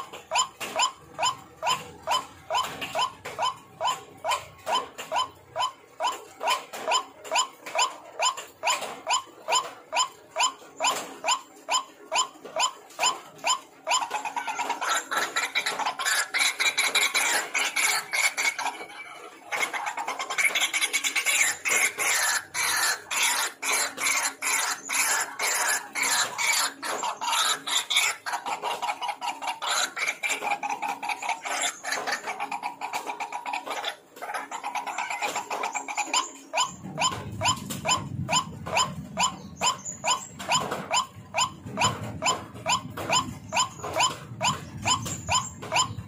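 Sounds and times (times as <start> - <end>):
waterhen calling: 0.0 - 46.0.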